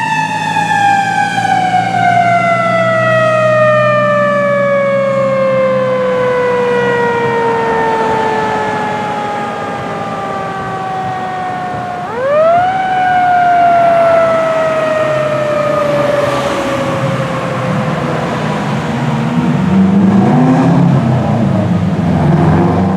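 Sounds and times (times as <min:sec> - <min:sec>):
fire engine siren wailing: 0:00.0 - 0:22.9
heavy vehicle engine: 0:00.0 - 0:22.9.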